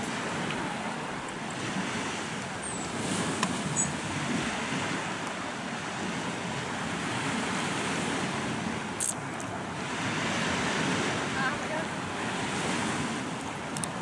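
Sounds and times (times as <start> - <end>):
waves on rocky shore: 0.0 - 14.0
wind buffeting microphone: 0.0 - 14.0.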